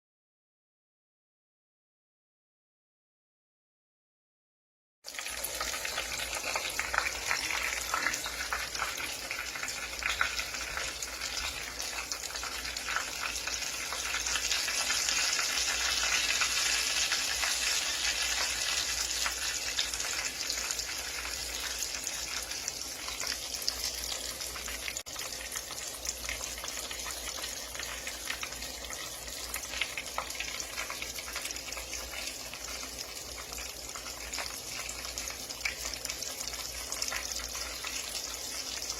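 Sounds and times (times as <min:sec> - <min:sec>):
hot oil sizzling in a frying pan: 0:05.0 - 0:38.9.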